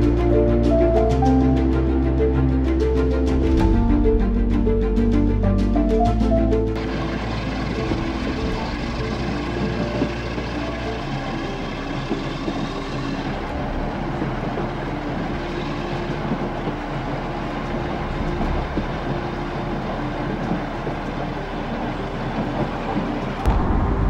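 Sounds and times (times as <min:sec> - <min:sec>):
passenger train running: 0:00.0 - 0:24.0.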